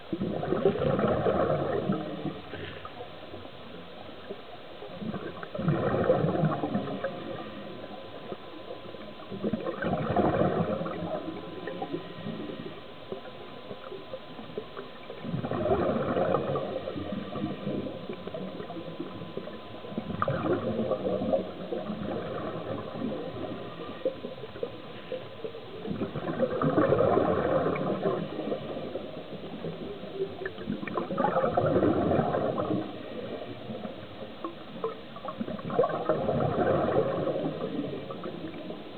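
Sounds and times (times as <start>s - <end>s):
regulator exhaust bubbles underwater: 0.0s - 38.9s.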